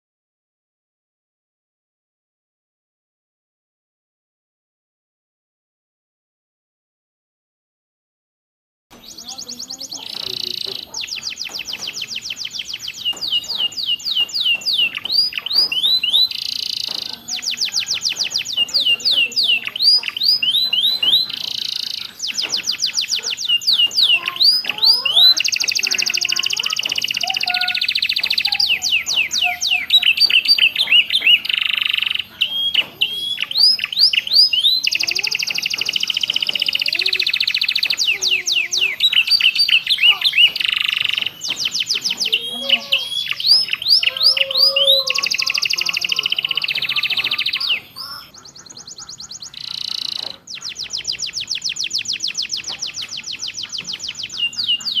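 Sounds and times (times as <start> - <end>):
canary singing: 8.9 - 55.0.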